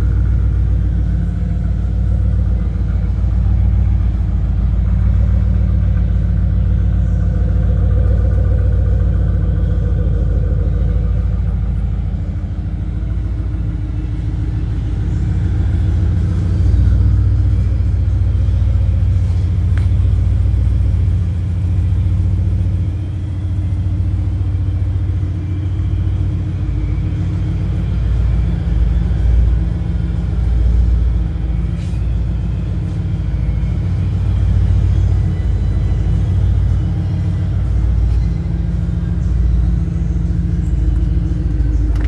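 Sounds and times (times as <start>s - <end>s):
car engine rumbling: 0.0s - 42.0s.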